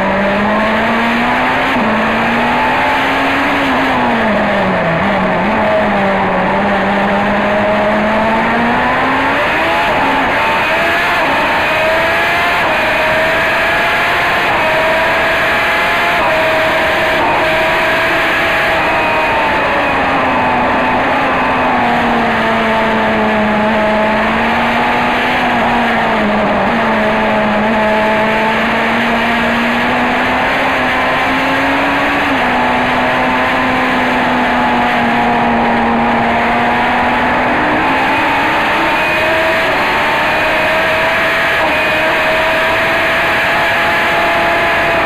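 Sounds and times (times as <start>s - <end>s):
racing car engine at high revs: 0.0s - 45.0s.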